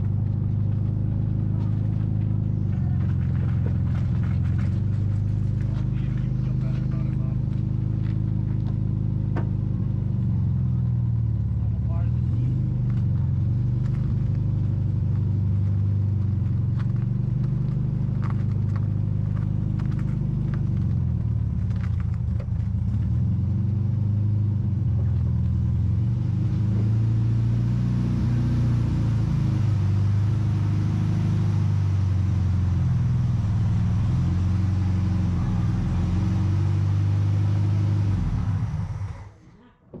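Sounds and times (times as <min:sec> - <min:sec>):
car engine revving while driving: 0:00.0 - 0:39.4.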